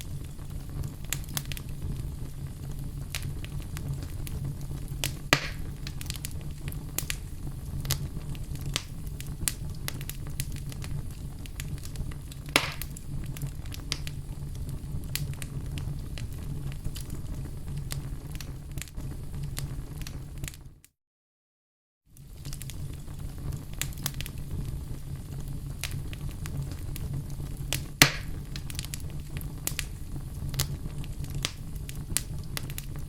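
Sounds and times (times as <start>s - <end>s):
loud pops from fire: 0.0s - 20.6s, 22.1s - 33.0s
low rumble of flames: 0.0s - 20.8s, 22.1s - 33.0s
wood fire crackling: 0.0s - 20.8s, 22.1s - 33.0s.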